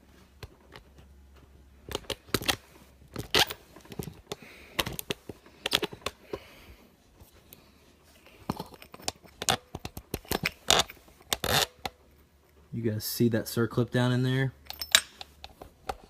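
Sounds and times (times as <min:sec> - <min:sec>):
hands handling parts and tools: 0:00.0 - 0:12.7, 0:14.5 - 0:16.0.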